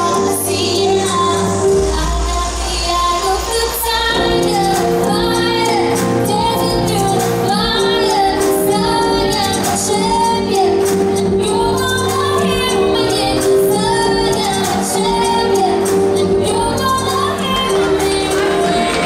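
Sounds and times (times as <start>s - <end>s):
latin dance music: 0.0s - 19.0s
woman singing: 0.0s - 19.0s.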